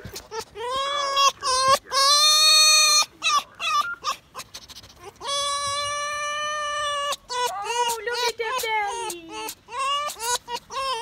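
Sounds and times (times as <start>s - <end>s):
fox calling: 0.0s - 11.0s.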